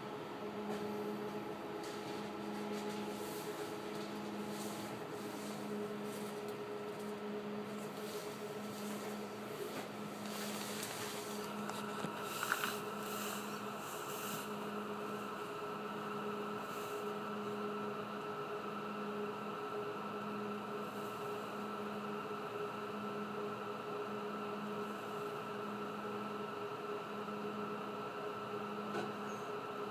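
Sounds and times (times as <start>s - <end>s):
train electrical hum: 0.0s - 29.9s.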